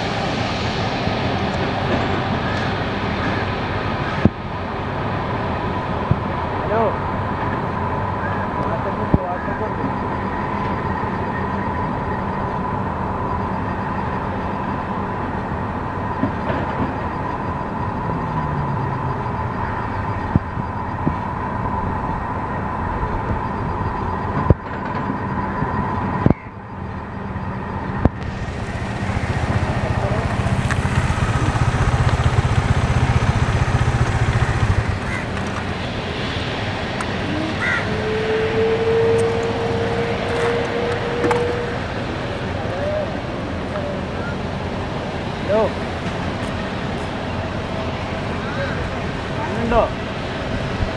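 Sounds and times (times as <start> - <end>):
jet engine deep rumble: 0.0 - 50.9
jet engines whining: 0.0 - 50.9.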